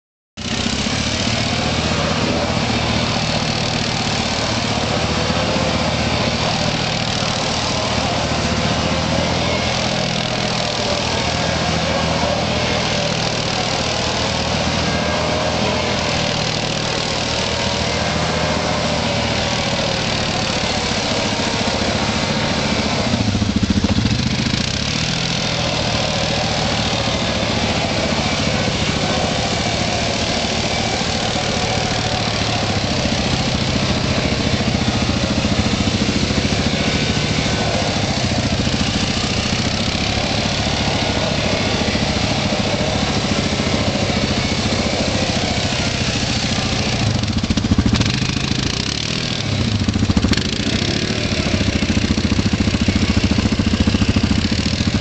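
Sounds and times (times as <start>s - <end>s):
quad bike engine running: 0.4s - 55.0s.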